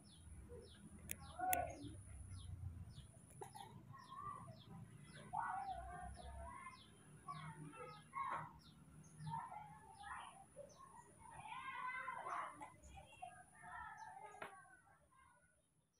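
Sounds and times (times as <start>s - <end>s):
birds chirping: 0.0s - 14.5s.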